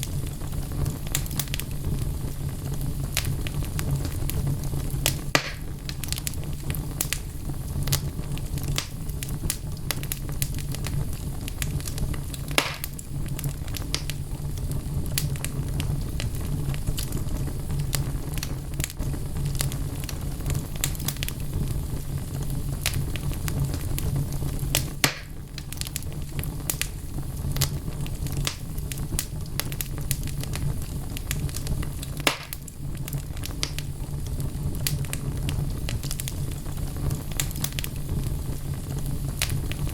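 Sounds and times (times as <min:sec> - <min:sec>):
burning logs crackling: 0:00.0 - 0:39.9
fire rumbling in fireplace: 0:00.0 - 0:39.9
loud pops of fire: 0:00.0 - 0:39.9.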